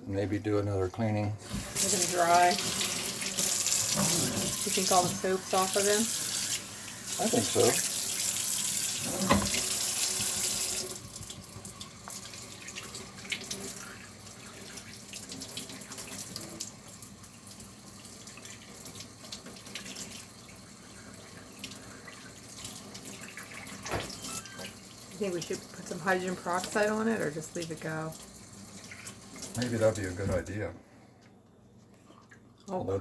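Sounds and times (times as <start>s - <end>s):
water running from a tap: 1.4s - 30.6s.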